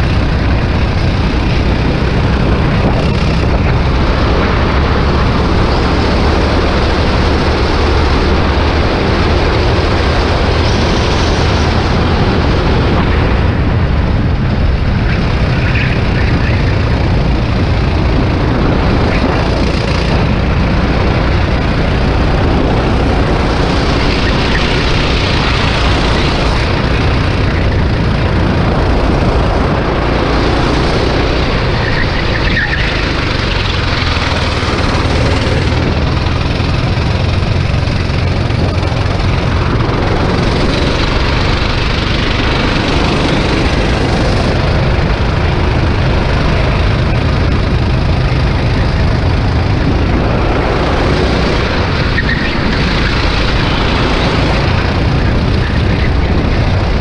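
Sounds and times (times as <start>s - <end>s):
racing kart engine running: 0.0s - 57.0s.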